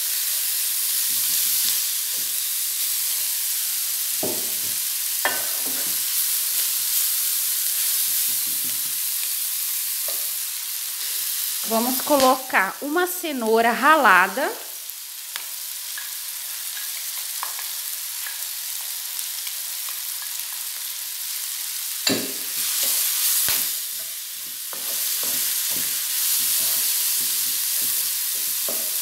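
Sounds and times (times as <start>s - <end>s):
food sizzling in oil: 0.0s - 29.0s.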